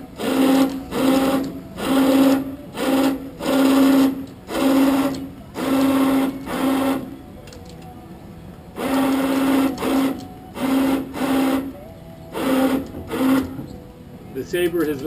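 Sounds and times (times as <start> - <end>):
electric winch motor: 0.0 - 15.0.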